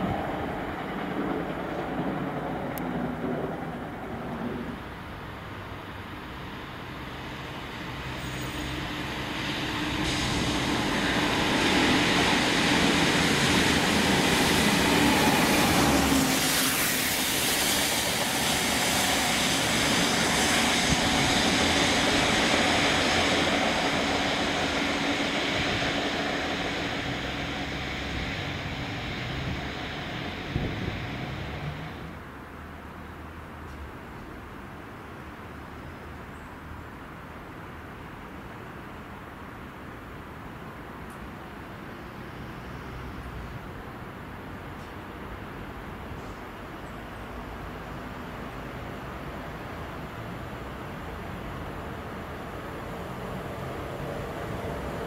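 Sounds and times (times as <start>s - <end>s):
diesel train passing: 0.0s - 35.7s, 37.0s - 55.0s.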